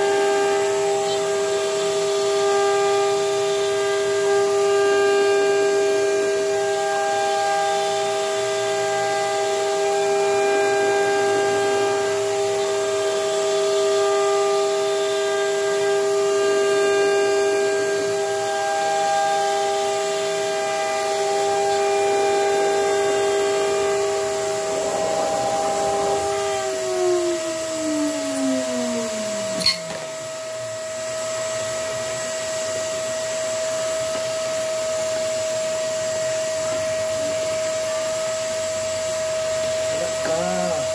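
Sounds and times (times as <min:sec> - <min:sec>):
router spindle whining: 0:00.0 - 0:34.3
vacuum hose whine: 0:00.0 - 0:40.9.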